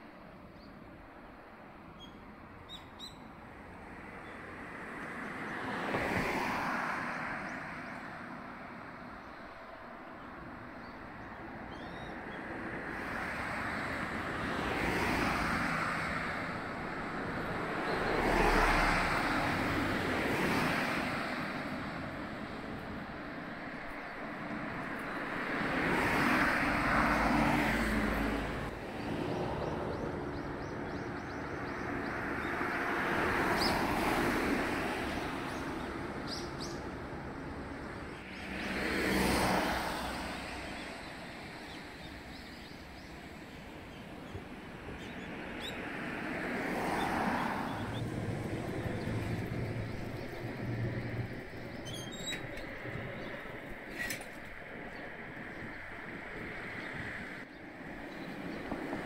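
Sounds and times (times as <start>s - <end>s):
cars passing by on a road: 0.0s - 59.0s.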